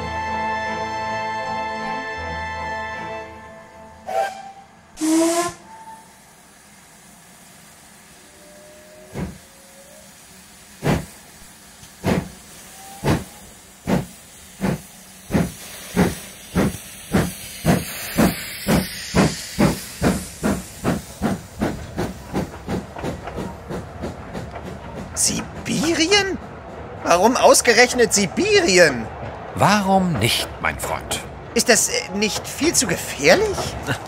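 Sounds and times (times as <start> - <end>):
steam hissing: 4.0 - 30.1, 31.6 - 34.0
steam locomotive exhaust chuffing: 4.0 - 34.0.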